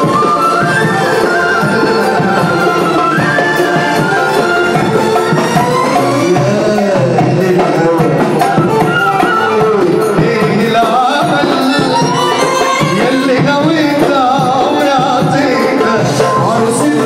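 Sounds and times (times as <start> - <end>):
drums: 0.0 - 17.0
keyboard: 0.0 - 17.0
man singing into microphone: 0.0 - 17.0.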